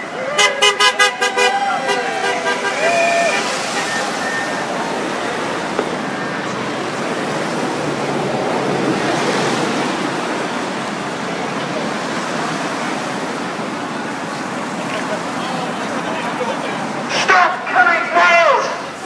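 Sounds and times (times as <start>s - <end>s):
crowd murmur: 0.0s - 19.0s
road traffic rushing: 0.0s - 19.0s.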